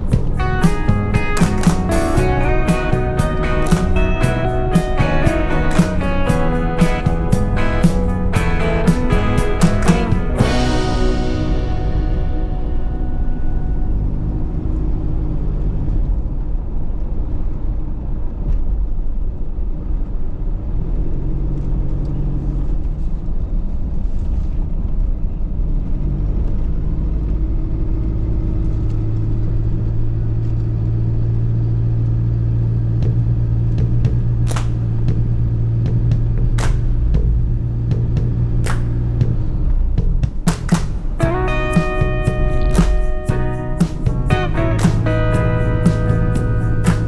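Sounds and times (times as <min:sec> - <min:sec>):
vehicle engine and road noise: 0:00.0 - 0:47.0.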